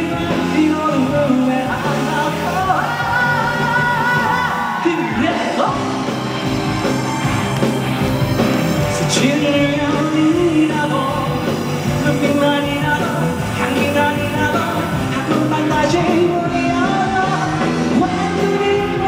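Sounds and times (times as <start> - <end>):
person singing long notes: 0.0 - 6.5, 8.8 - 19.0
live band playing a pop ballad: 0.0 - 19.0.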